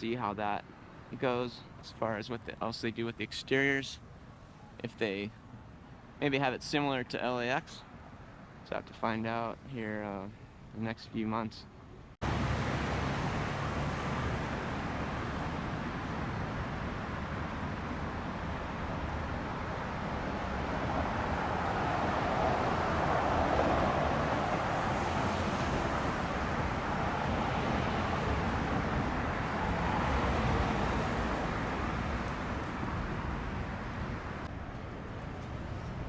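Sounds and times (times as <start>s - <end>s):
vehicles passing by: 0.0s - 36.0s.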